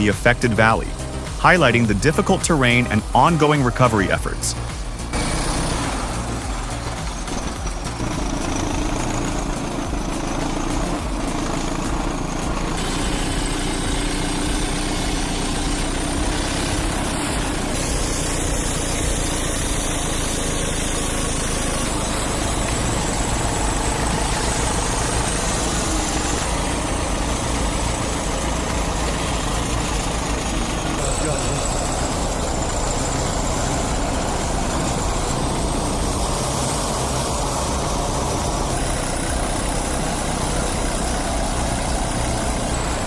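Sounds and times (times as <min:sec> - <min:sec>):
heavy machinery diesel engine: 0:00.0 - 0:43.0.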